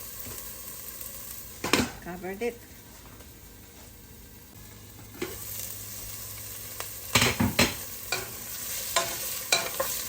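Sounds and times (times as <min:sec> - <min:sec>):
garlic and ginger sizzling in oil: 0:00.0 - 0:10.0.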